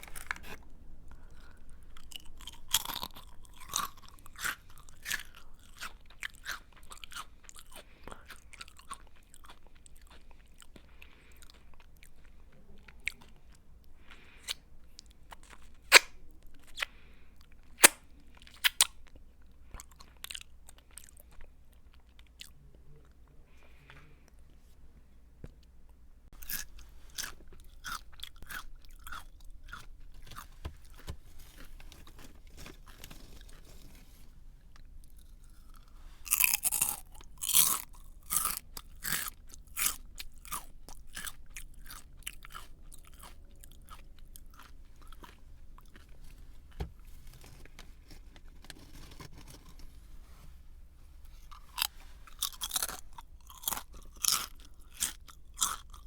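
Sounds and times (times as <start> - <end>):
crunchy snack being chewed: 0.0 - 24.5, 26.4 - 46.4, 47.3 - 49.9, 51.4 - 56.0.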